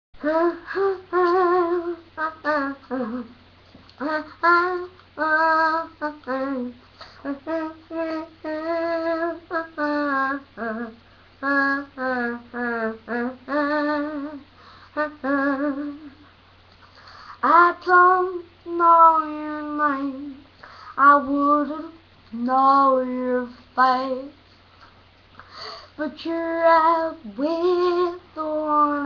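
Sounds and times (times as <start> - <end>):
person singing unaccompanied: 0.2 - 16.3, 17.2 - 24.4, 25.5 - 29.0.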